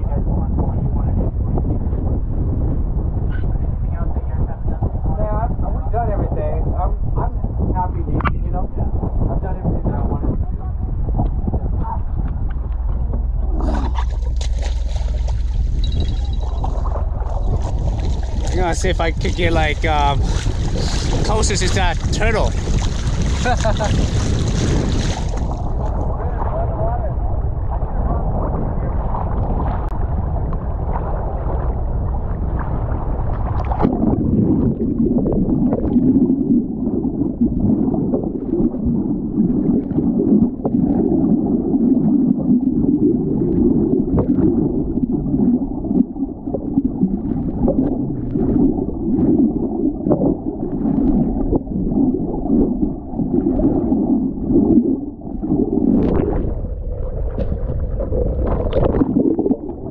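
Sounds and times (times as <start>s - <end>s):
muffled underwater gurgling: 0.0s - 59.9s
water noise: 0.0s - 59.9s
wind on microphone: 0.0s - 59.9s.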